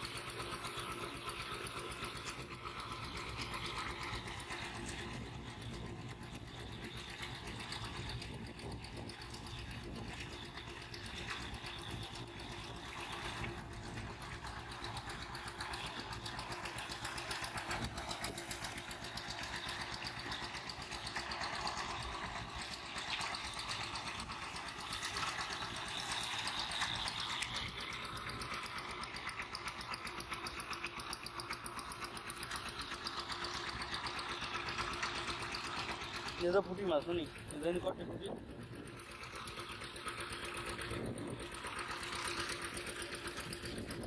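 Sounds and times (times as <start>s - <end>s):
small engine running: 0.0s - 44.0s.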